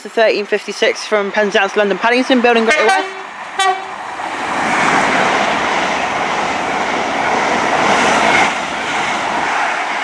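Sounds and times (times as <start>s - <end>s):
train wheel and rail noise: 0.0s - 10.0s.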